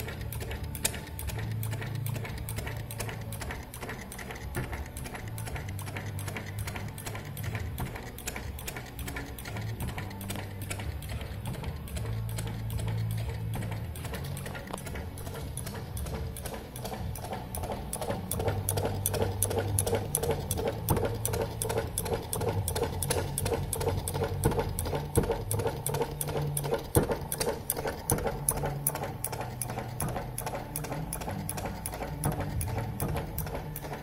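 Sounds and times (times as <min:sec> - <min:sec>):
single-cylinder engine clattering: 0:00.0 - 0:34.0.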